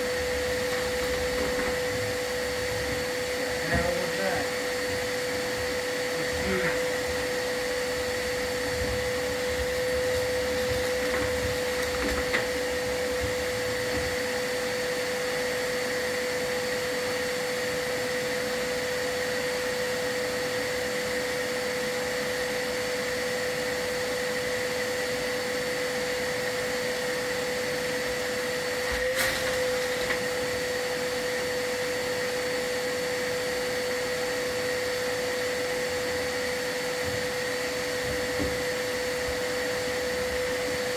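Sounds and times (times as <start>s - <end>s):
vacuum motor whining: 0.0s - 40.9s.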